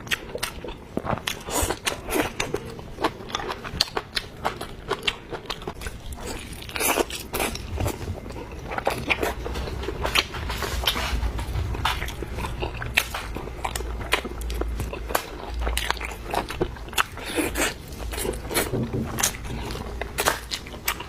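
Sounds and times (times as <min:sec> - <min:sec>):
chewing and biting: 0:00.0 - 0:21.0.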